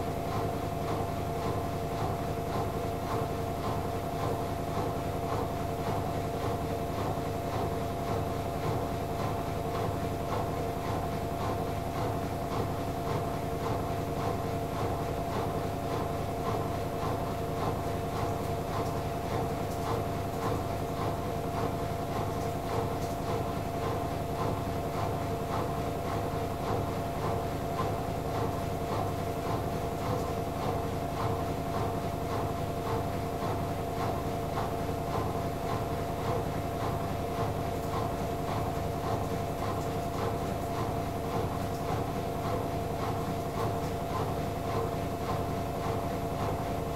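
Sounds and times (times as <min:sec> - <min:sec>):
washing machine motor hum: 0:00.0 - 0:46.9.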